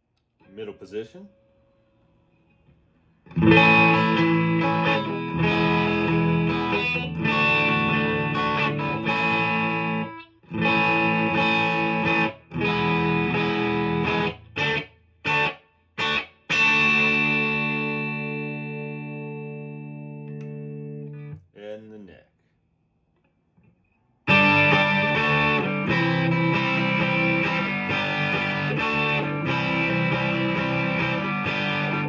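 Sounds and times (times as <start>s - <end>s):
overdriven electric guitar chords: 3.2s - 21.4s, 24.2s - 32.0s.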